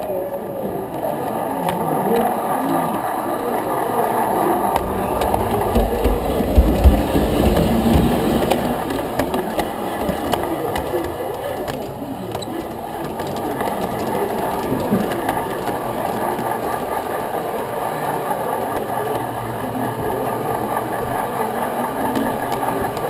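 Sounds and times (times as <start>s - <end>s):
faint clicks: 0.0s - 23.0s.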